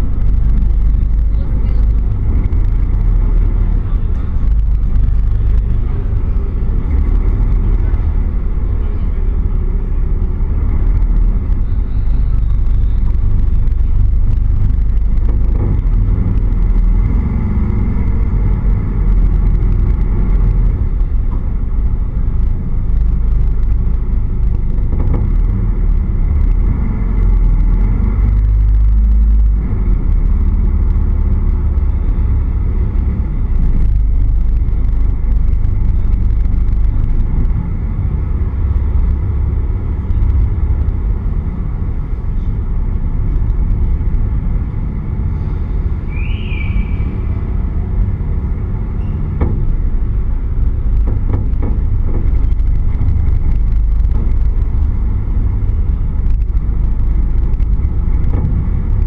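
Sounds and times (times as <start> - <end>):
car engine and exhaust rumbling: 0.0 - 59.0.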